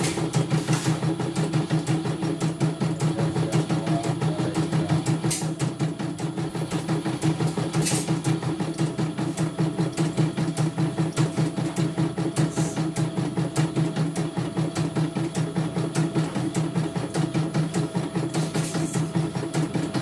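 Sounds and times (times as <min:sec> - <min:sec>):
embroidery machine motor hum: 0:00.0 - 0:20.0.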